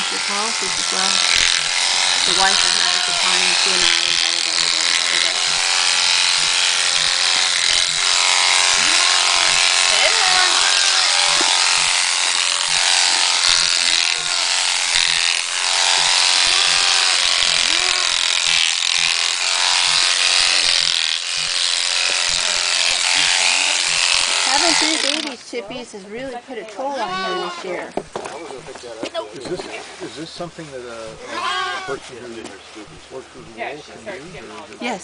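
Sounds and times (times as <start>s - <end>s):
electric sheep shears buzzing: 0.0s - 28.3s, 31.1s - 32.0s.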